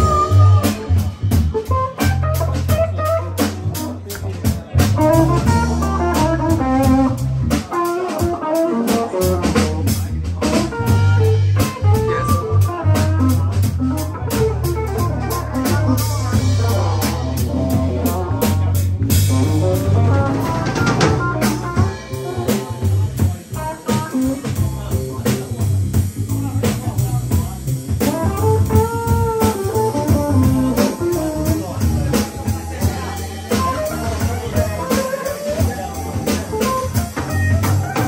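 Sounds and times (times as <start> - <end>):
bass line: 0.0 - 38.0
live band playing: 0.0 - 38.0.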